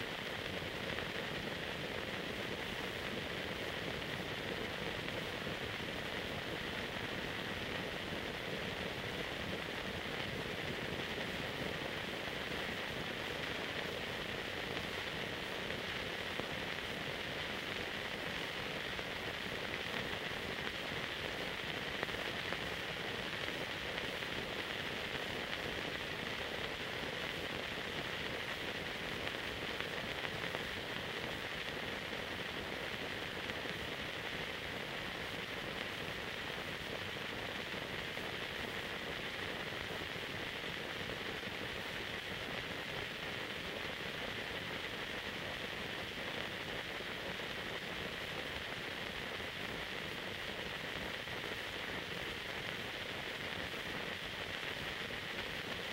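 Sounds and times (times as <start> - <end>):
film hiss: 0.0 - 55.9.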